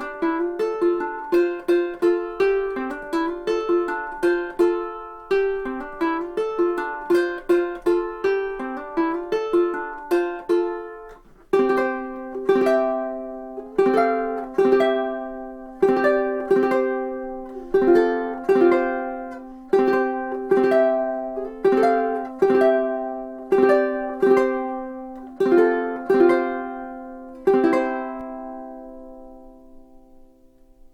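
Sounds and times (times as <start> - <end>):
ukulele strumming slow chords: 0.0 - 30.9.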